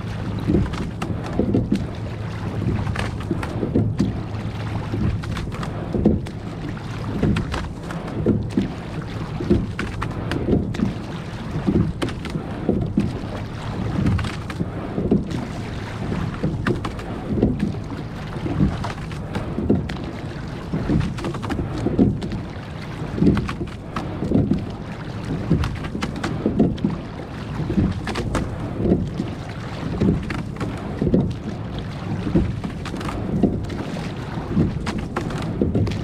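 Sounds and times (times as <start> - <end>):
oars stroking through water: 0.0 - 36.0.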